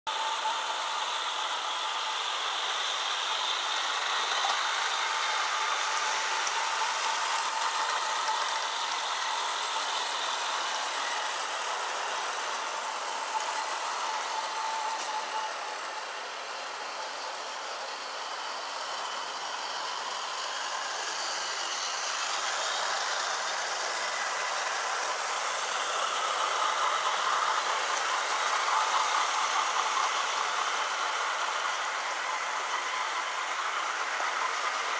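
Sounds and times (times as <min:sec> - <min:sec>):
model train rattling on track: 0:00.1 - 0:34.9.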